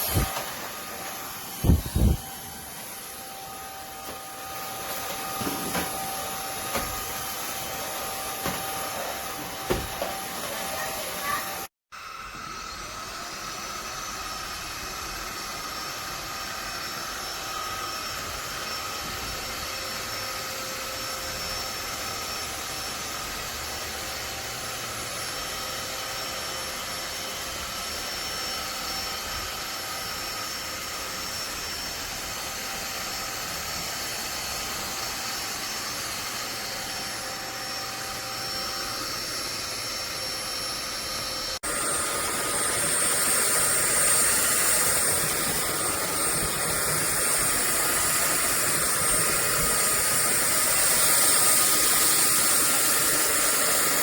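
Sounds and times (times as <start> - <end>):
stick vacuum running: 0.0 - 22.8, 32.2 - 54.0.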